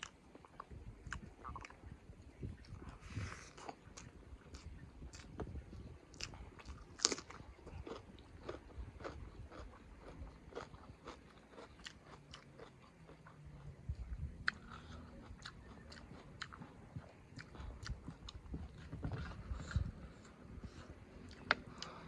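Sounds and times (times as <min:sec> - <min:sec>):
person chewing and eating: 0:00.0 - 0:22.0.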